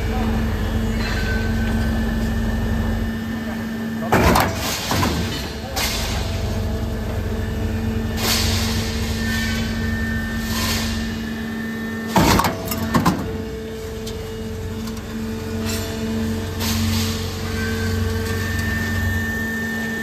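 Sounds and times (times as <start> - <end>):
machine motor hum: 0.0 - 20.0.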